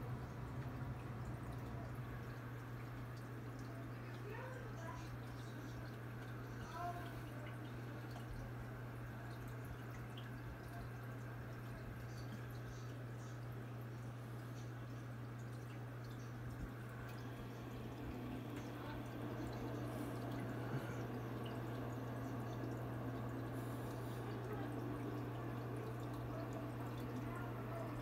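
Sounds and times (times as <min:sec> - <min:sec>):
filter low hum: 0:00.0 - 0:28.0
water trickling and dripping: 0:00.0 - 0:28.0.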